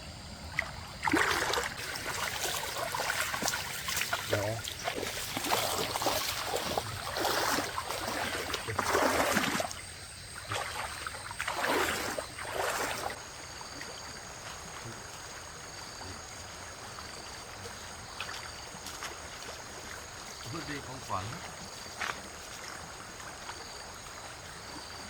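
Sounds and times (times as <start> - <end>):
stream water flowing: 0.2 - 25.0
water splashing from wading: 0.5 - 25.0.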